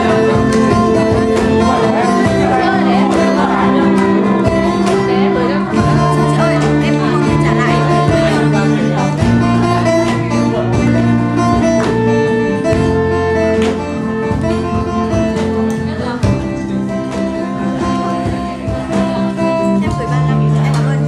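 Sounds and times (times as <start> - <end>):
acoustic guitar chords: 0.0 - 21.0
small band playing live: 0.0 - 21.0.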